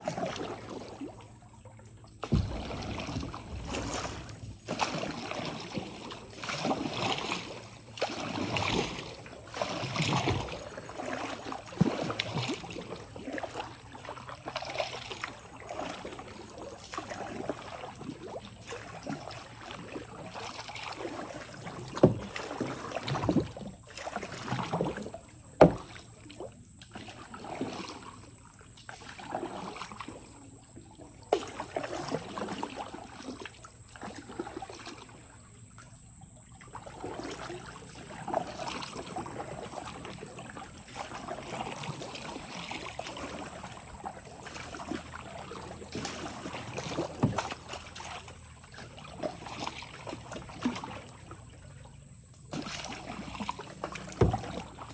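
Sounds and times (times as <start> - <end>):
water splashing and swishing: 0.0 - 54.9.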